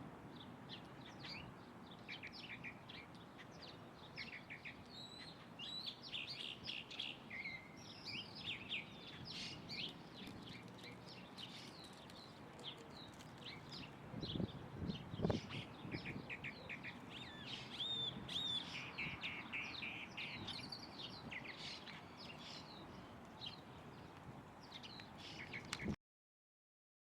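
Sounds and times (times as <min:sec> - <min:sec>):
small birds chirping: 0:00.3 - 0:26.0.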